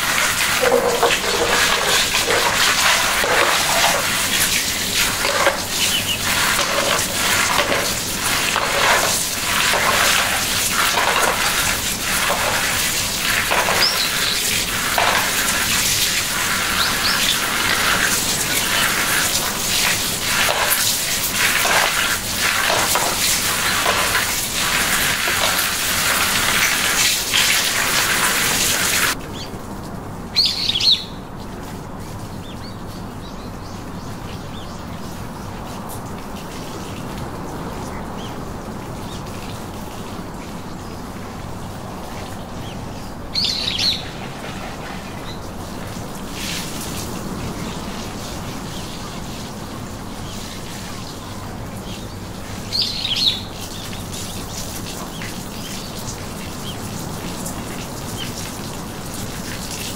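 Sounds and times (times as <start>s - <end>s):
hiss of moving water: 0.0s - 29.2s, 34.2s - 59.9s
water splashing and sloshing: 0.0s - 59.9s.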